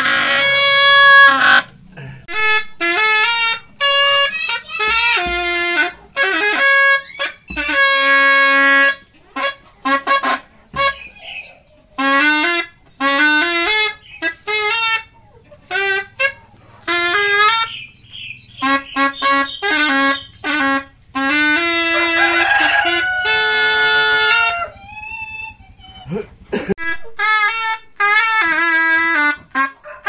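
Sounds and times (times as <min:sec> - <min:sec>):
loud double-reed shawm playing: 0:00.0 - 0:30.0.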